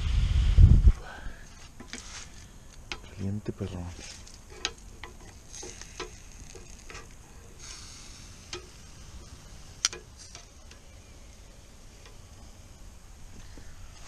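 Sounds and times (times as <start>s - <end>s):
charcoal fire crackles: 0.0s - 14.0s
meat sizzling on grill: 1.7s - 14.0s.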